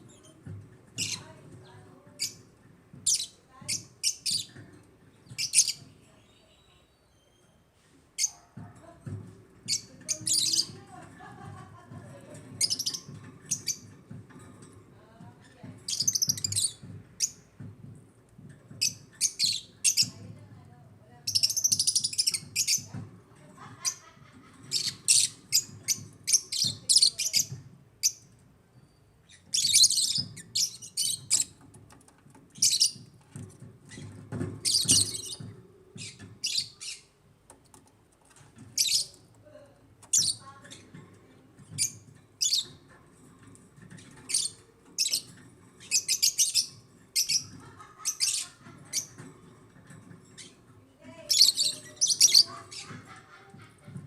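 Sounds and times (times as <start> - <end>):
birds chirping: 0.0 - 8.4, 9.6 - 39.4, 40.0 - 54.0.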